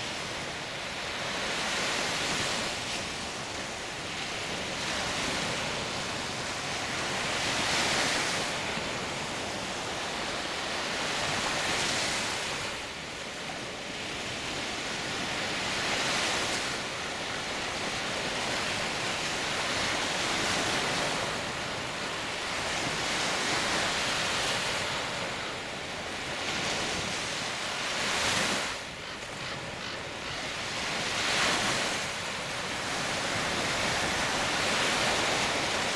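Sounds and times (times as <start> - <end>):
small waves breaking on beach: 0.0 - 35.9.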